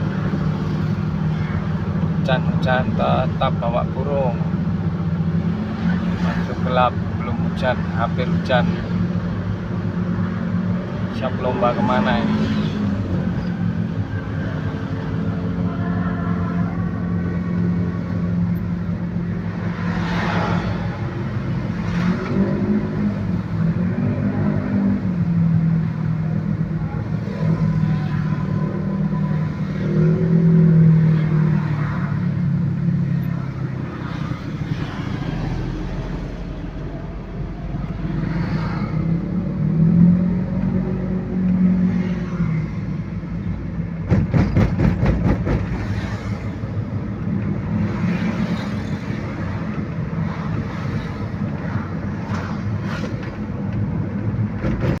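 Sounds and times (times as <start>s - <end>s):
vehicle engines revving: 0.0s - 55.0s.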